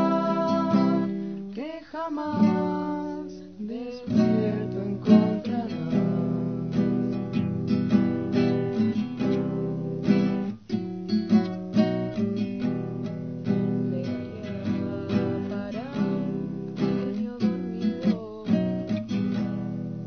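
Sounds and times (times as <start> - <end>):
person singing: 0.0 - 10.4, 13.4 - 20.0
acoustic guitar strumming: 0.0 - 20.0.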